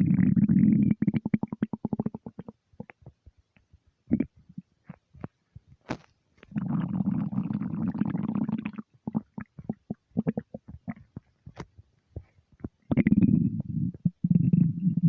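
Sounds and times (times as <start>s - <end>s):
stomach gurgling: 0.0s - 15.0s.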